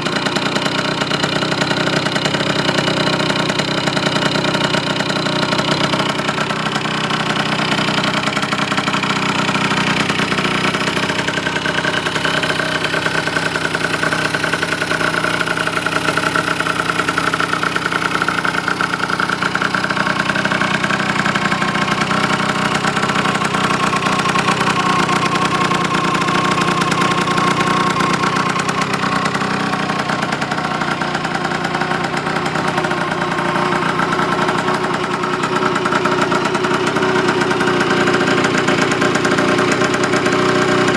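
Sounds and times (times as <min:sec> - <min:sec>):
two-stroke scooter engine idling: 0:00.0 - 0:40.9.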